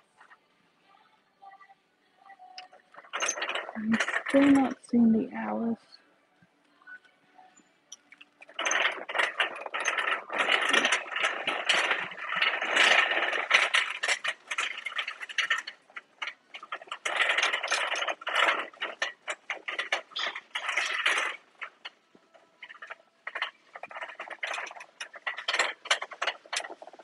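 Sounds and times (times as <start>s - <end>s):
shopping cart rattling: 2.6s - 5.7s, 8.4s - 27.0s.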